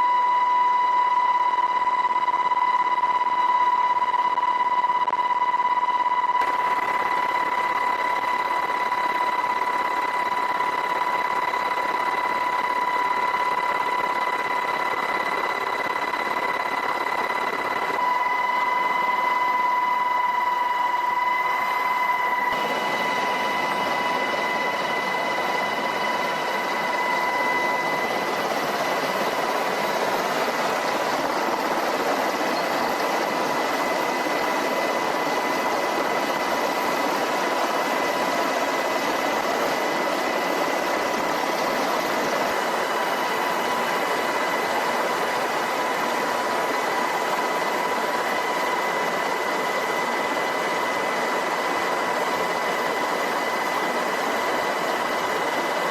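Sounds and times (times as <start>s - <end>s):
helicopter running: 6.4s - 55.9s.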